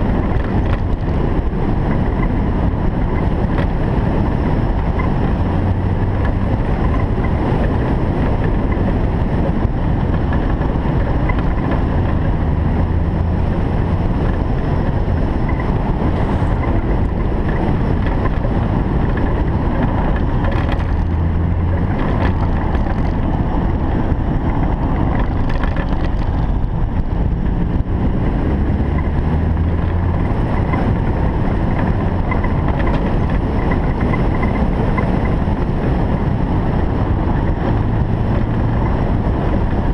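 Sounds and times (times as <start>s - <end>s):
car engine droning: 0.0s - 39.9s
road and wind noise: 0.0s - 39.9s.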